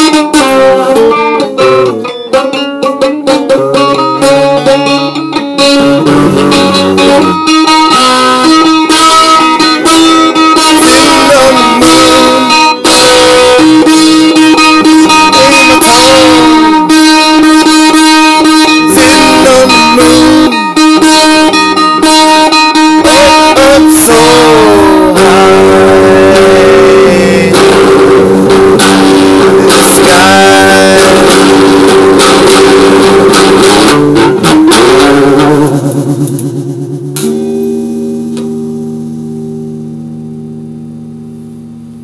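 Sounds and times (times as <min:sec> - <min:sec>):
guitar music with bending notes: 0:00.0 - 0:42.0.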